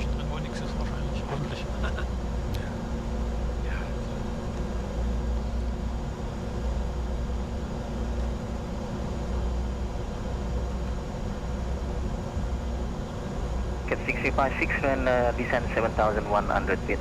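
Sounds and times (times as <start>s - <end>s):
low engine and fan hum: 0.0s - 17.0s.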